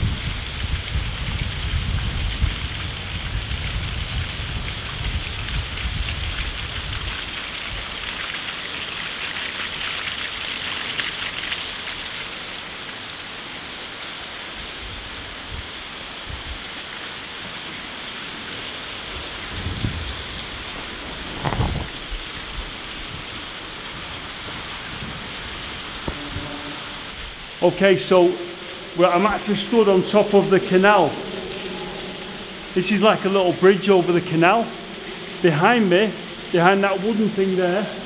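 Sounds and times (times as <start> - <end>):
water splashing in a tunnel: 0.0 - 38.0.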